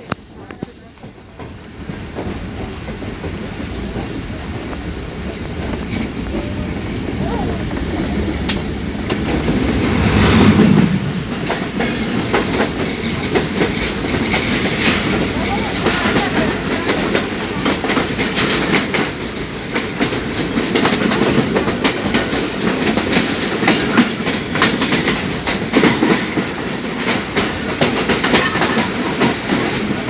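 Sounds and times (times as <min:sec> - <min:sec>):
clickety-clack over rail joints: 0:00.0 - 0:30.0
train rumble inside coach: 0:00.0 - 0:30.0.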